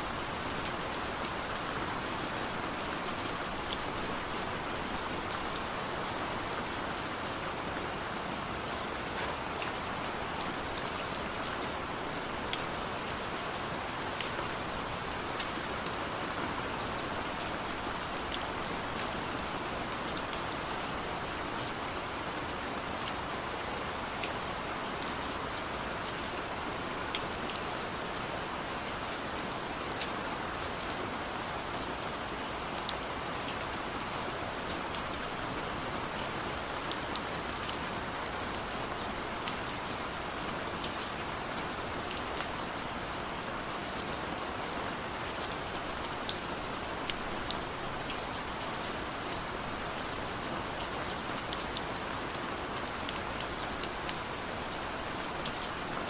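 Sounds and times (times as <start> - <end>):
sharp ticks of raindrops: 0.0 - 56.0
steady rain falling: 0.0 - 56.0.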